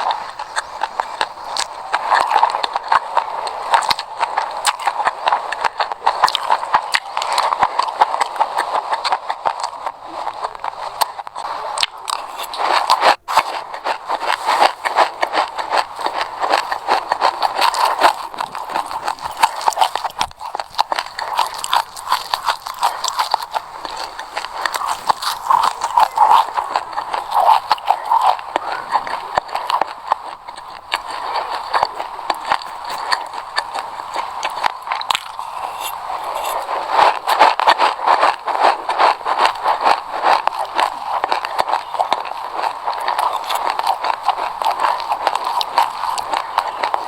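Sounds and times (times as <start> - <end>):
seeds being chewed crunching: 0.0 - 47.0.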